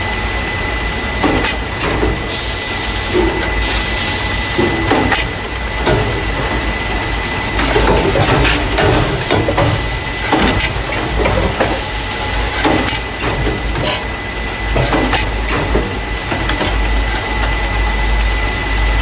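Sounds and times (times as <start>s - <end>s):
machine humming with whine: 0.0s - 19.0s
machine clacks and knocks: 1.2s - 2.4s, 3.1s - 18.6s.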